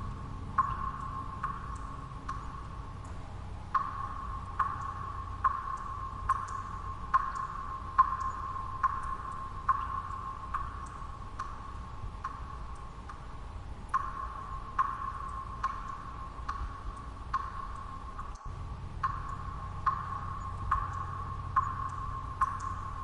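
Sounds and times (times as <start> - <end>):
low steady background noise: 0.0 - 23.0
water drops plinking: 0.5 - 3.2, 3.8 - 13.2, 13.9 - 23.0.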